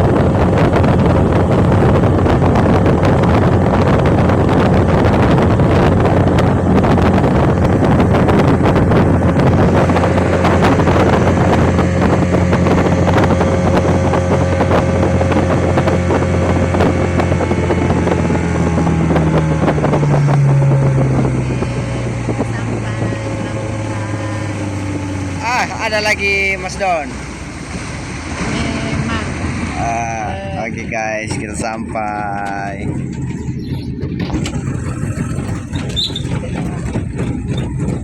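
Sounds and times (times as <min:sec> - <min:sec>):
motorboat engine running: 0:00.0 - 0:38.0
wind noise on microphone: 0:00.0 - 0:38.0.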